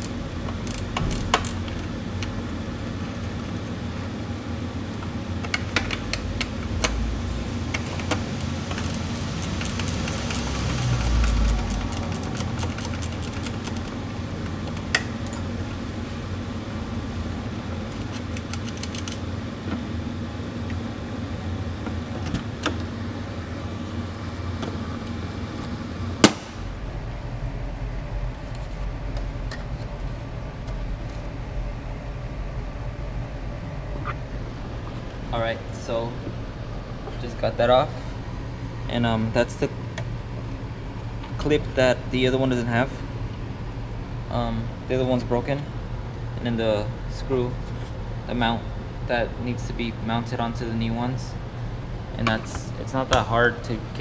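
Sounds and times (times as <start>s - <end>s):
low hum: 0.0s - 46.3s.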